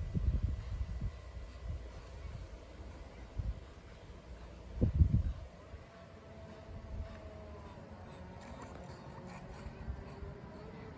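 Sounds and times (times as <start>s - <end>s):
faint outdoor hiss: 0.0s - 10.9s
wind buffeting microphone: 0.0s - 10.9s.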